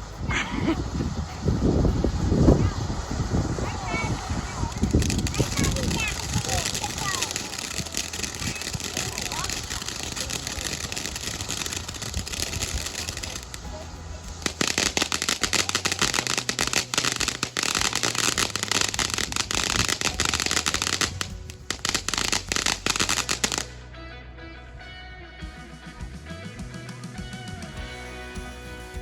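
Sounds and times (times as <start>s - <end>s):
fireworks crackling: 0.0s - 23.8s
fireworks hissing: 0.0s - 23.8s
background music: 0.0s - 29.0s.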